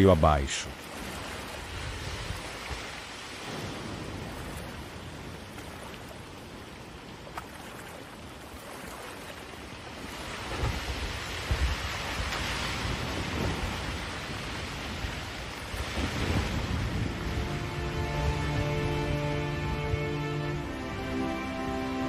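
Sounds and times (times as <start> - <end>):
flooded river roaring: 0.0 - 22.0.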